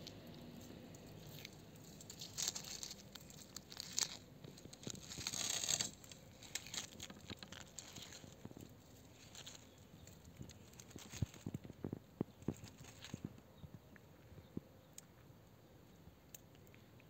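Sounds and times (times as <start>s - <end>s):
tortoise chewing strawberry: 0.0s - 17.0s.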